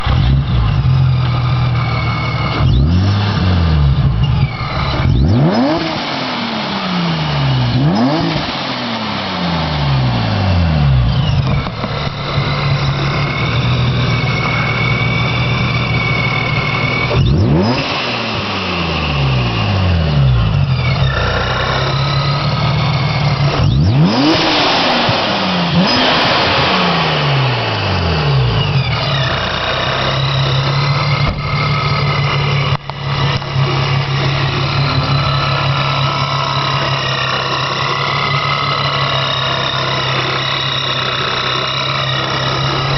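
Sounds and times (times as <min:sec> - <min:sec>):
car engine revving: 0:00.0 - 0:42.9
supercharger whine: 0:00.0 - 0:42.9.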